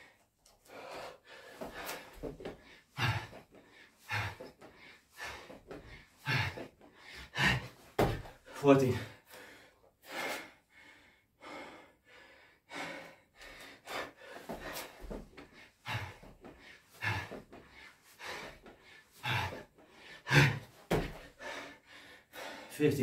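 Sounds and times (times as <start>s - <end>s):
man breathing hard: 0.0s - 23.0s.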